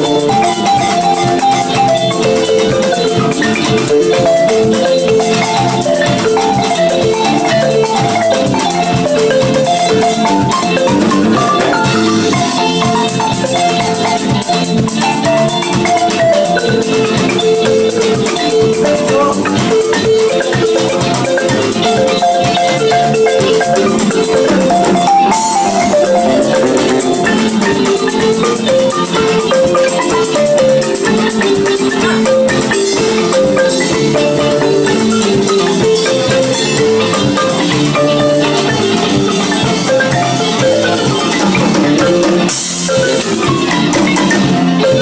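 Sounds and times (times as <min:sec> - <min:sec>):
electric guitar: 0:00.0 - 0:45.0
kora: 0:00.0 - 0:45.0
percussion beat: 0:00.0 - 0:45.0
xylophone: 0:00.0 - 0:45.0.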